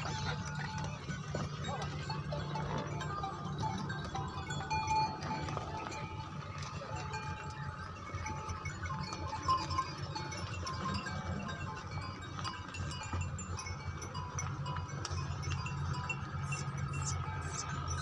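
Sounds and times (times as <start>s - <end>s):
small bells jingling: 0.0s - 18.0s.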